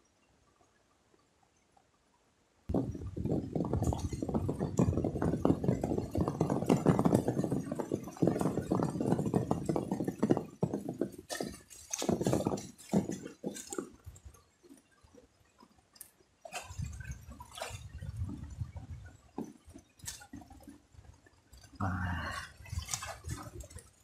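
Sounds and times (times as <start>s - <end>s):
muddy water splashing: 2.7s - 24.0s.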